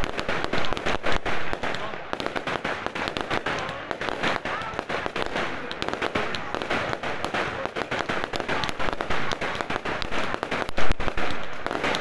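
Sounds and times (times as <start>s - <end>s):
sharp cracks and pops: 0.0s - 12.0s.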